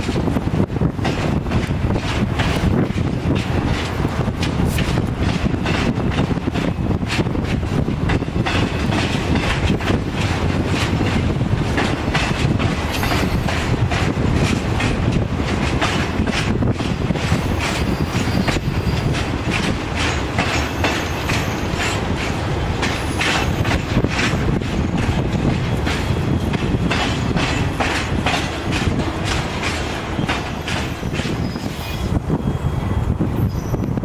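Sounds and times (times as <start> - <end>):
wheels clicking over rail joints: 0.0 - 32.0
freight train rumbling past: 0.0 - 34.0.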